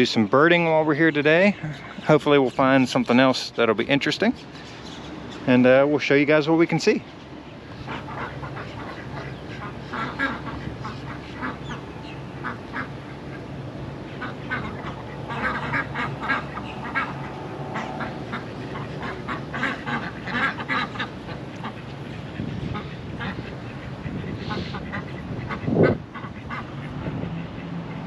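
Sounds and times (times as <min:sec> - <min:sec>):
ducks quacking: 0:00.0 - 0:28.0.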